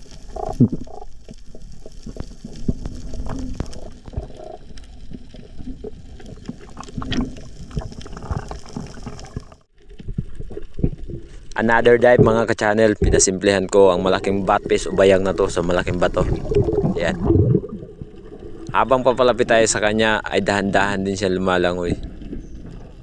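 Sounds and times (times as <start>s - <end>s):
muffled underwater rumble: 0.0s - 23.0s.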